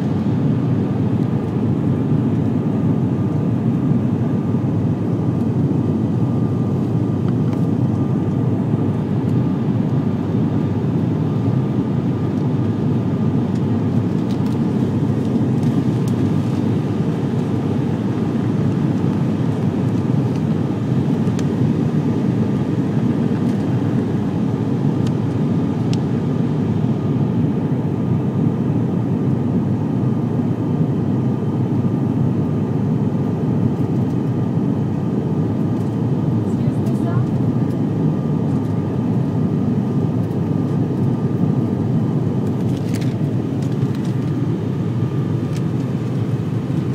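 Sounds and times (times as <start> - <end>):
faint steady whine: 0.0 - 46.9
turboprop engines droning: 0.0 - 46.9.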